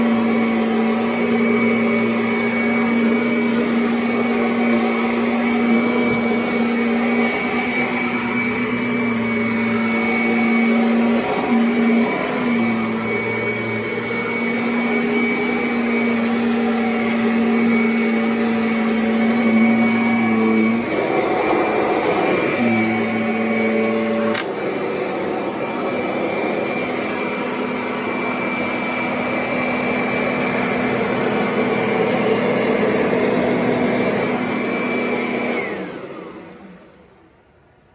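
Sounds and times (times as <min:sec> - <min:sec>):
vacuum cleaner motor whine: 0:00.0 - 0:37.6.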